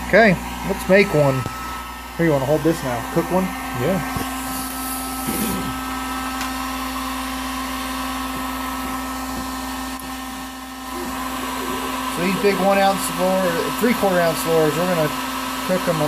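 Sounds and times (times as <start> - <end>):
heat gun whirring: 0.0 - 16.0.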